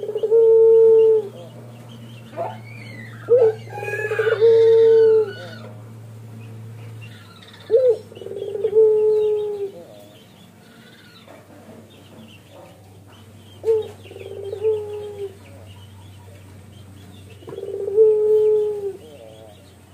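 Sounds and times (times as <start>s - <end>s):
dove cooing: 0.0s - 6.0s, 6.6s - 19.9s.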